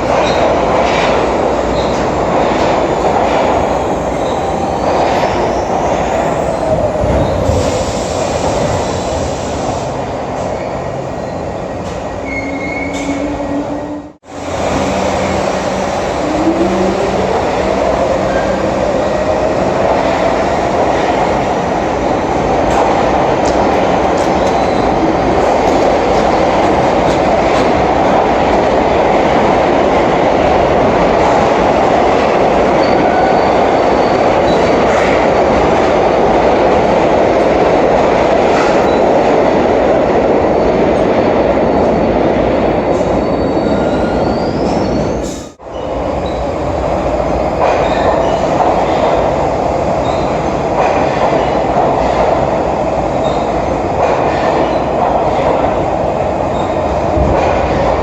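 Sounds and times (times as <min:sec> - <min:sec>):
subway train running: 0:00.0 - 0:58.0.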